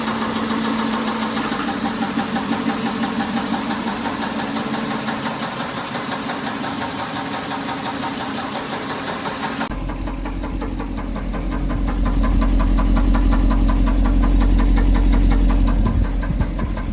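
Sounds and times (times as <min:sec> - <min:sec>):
car engine running: 0:00.0 - 0:16.9
rapid engine knocking: 0:00.0 - 0:16.9.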